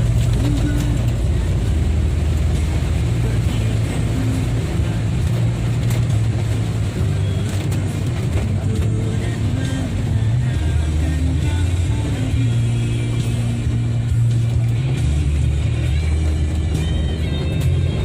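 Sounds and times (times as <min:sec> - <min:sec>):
heavy rain: 0:00.0 - 0:18.0
music with deep bass line: 0:00.0 - 0:18.0
road traffic: 0:00.0 - 0:18.0.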